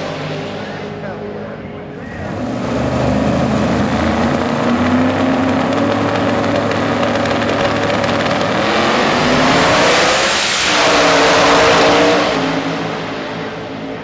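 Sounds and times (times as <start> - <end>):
drag car engines at full throttle: 0.0 - 14.0.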